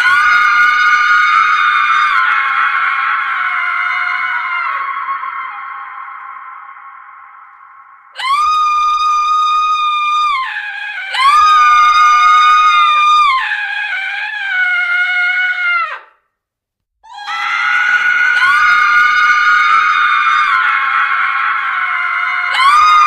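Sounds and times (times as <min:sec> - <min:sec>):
women screaming: 0:00.0 - 0:07.4, 0:08.2 - 0:16.1, 0:17.1 - 0:23.0.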